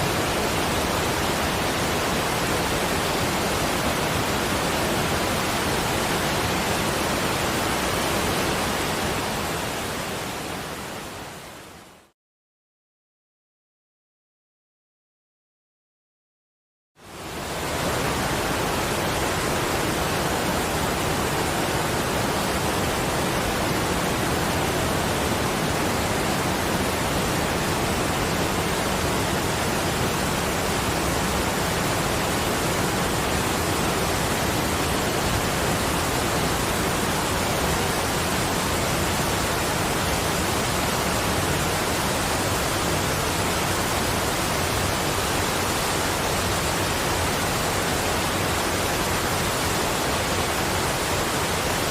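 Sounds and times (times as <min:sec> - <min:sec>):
rushing falling water: 0:00.0 - 0:12.1, 0:17.0 - 0:51.9.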